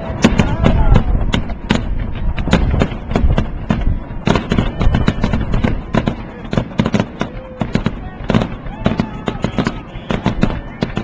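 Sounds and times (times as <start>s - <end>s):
distant fireworks rumble: 0.0s - 11.0s
fireworks bangs and crackles: 0.0s - 11.0s.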